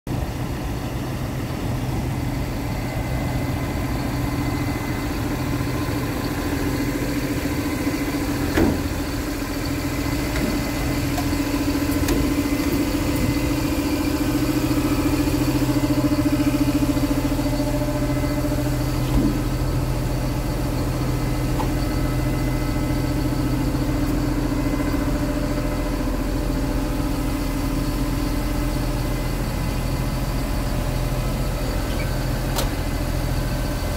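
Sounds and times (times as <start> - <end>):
diesel truck idling: 0.1 - 33.9.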